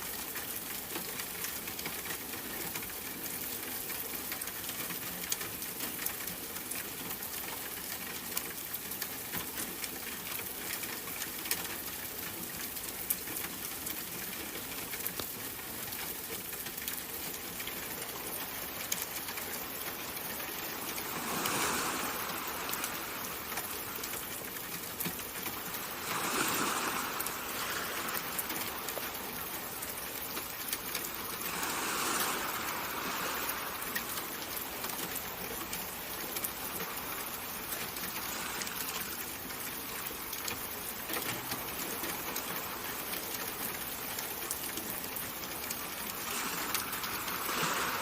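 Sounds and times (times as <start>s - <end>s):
pattering water: 0.0s - 48.0s.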